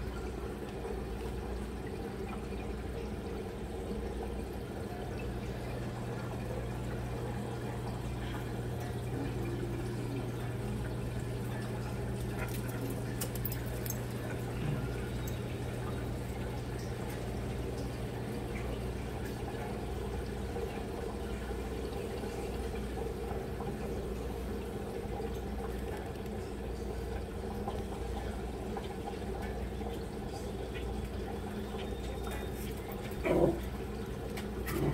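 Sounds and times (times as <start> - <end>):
pump humming: 0.0 - 34.9
water trickling: 0.0 - 34.9.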